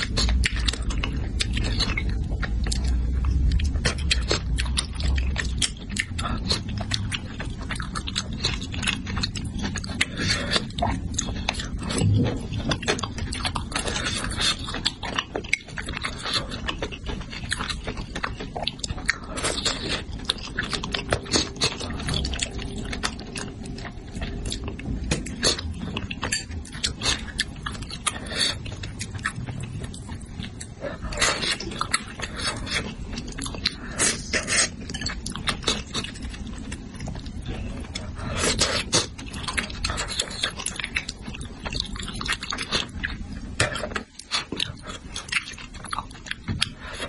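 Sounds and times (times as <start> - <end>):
close chewing and mouth smacking: 0.0 - 47.0.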